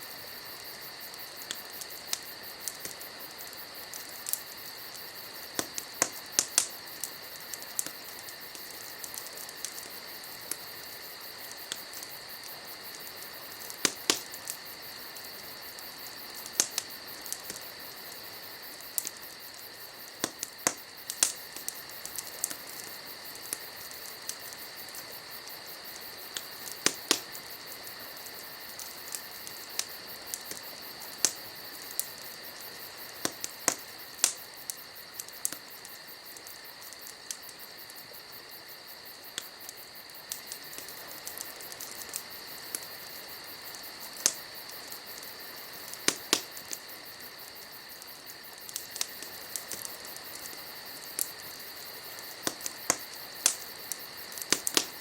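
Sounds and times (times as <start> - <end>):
campfire crackling: 0.0 - 55.0
insects trilling: 0.0 - 55.0.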